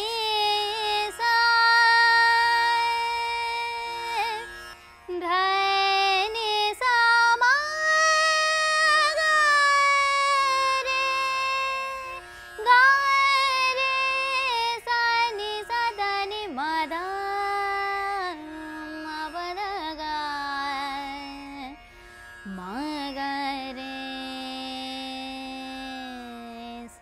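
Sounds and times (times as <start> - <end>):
tanpura drone: 0.0 - 27.0
woman singing classical vocal: 0.0 - 27.0.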